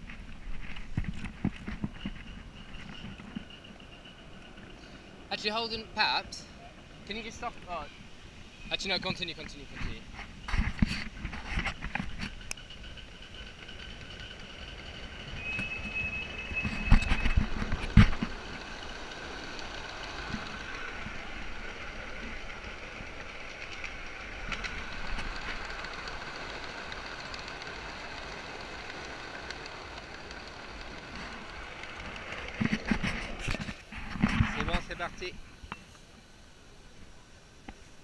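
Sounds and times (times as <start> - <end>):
miniature train rolling on track: 0.0 - 8.0, 8.7 - 38.0.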